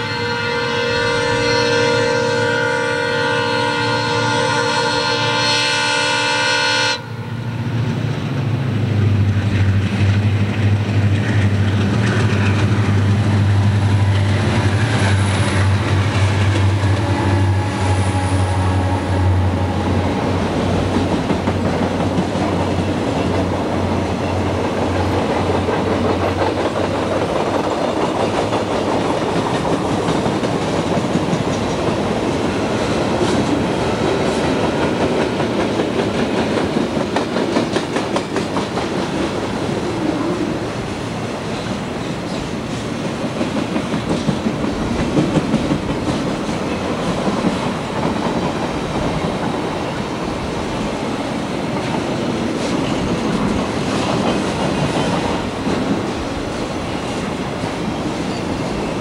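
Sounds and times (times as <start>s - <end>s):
diesel locomotive engine drone: 0.0s - 59.0s
train wheels on rails: 7.2s - 59.0s
rail joint clicks: 7.8s - 39.8s, 40.8s - 59.0s.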